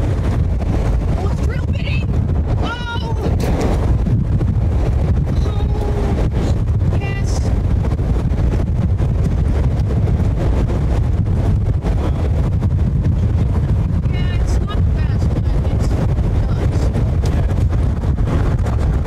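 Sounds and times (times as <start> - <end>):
vehicle road rumble: 0.0 - 19.0
wind buffeting microphone: 0.0 - 19.0.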